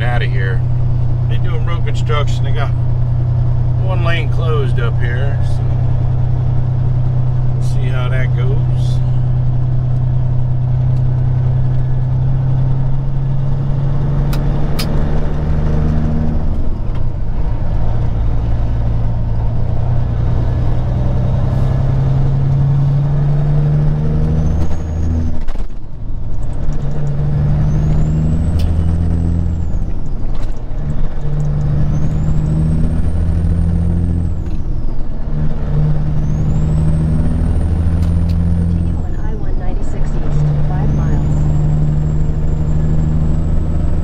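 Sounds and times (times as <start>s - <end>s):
truck diesel engine accelerating: 0.0s - 44.0s.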